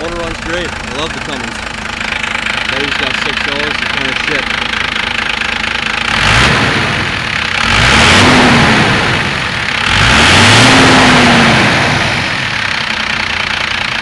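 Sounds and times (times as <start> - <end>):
diesel engine revving: 0.0 - 14.0
turbo and exhaust rush: 0.0 - 14.0.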